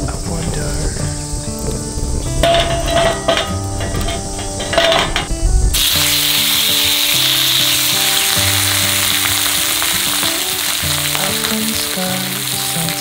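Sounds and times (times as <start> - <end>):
beef sizzling on hot metal: 0.1 - 13.0.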